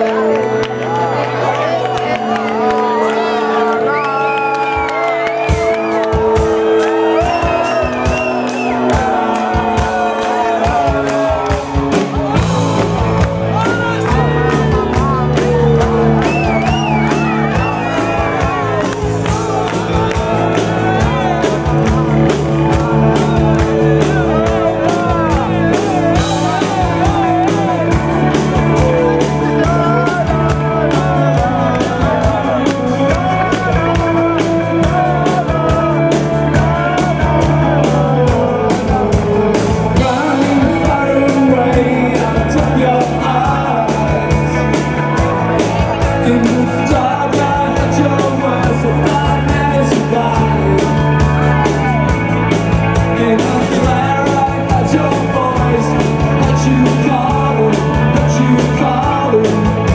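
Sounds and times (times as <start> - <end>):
drums: 0.0 - 59.9
man singing lead vocal: 0.0 - 59.9
distorted electric guitar: 5.1 - 59.9.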